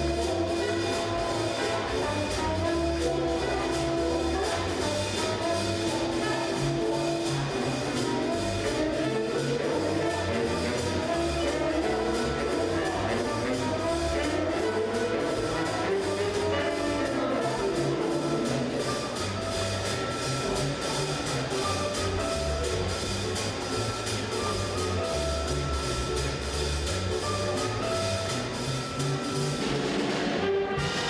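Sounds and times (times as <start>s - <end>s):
bass line: 0.0s - 31.0s
instrumental band music: 0.0s - 31.0s
steady drum beat: 0.0s - 31.0s.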